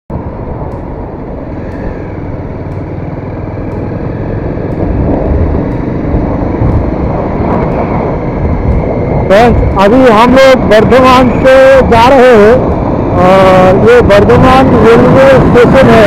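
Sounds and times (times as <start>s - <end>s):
wind and road noise: 0.1s - 16.0s
motorcycle engine running: 0.2s - 16.0s.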